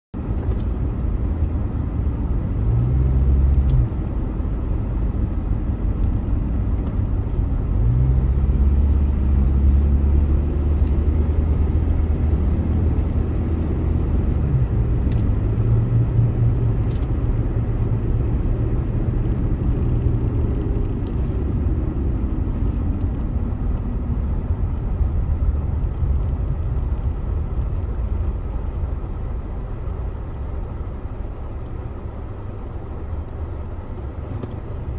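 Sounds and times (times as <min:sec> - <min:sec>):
car engine and road noise: 0:00.1 - 0:34.9.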